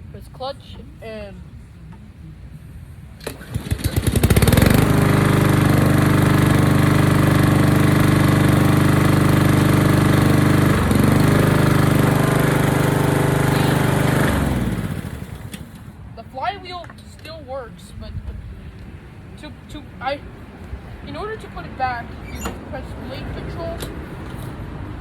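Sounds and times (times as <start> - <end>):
lawn mower engine running: 3.2 - 17.1, 18.3 - 25.0.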